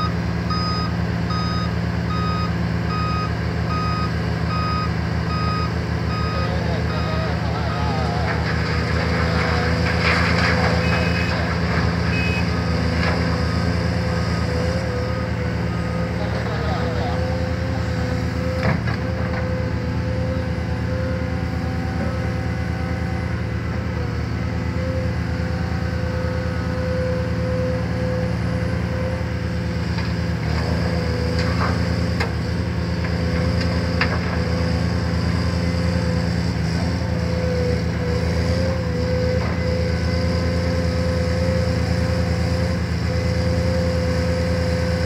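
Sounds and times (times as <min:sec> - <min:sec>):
excavator diesel engine whine: 0:00.0 - 0:45.0.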